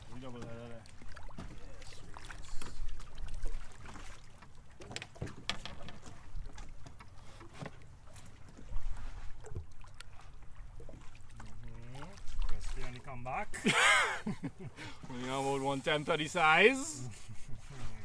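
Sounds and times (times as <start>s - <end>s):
water lapping at hull: 0.0s - 18.0s.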